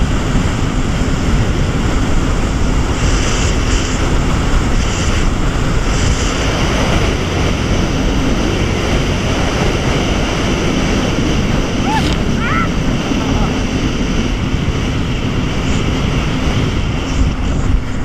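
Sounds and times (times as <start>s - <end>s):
jet ski engine drone: 0.0s - 18.0s
water rushing and spraying: 0.0s - 18.0s
wind buffeting microphone: 0.0s - 18.0s.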